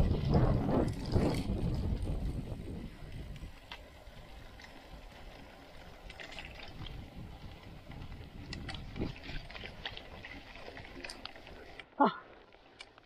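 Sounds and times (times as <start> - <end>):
bike rattles and clicks: 0.0 - 13.0
bike tyres rumbling on dirt: 0.0 - 13.0.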